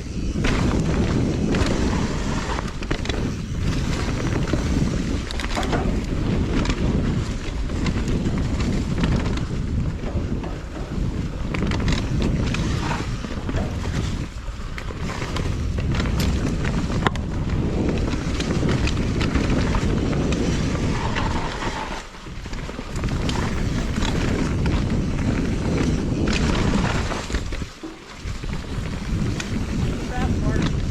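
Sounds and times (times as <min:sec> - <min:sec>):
wind buffeting microphone: 0:00.0 - 0:30.9
tyres rumbling on dirt: 0:00.4 - 0:30.9
bike chain and suspension knocking: 0:02.7 - 0:30.8.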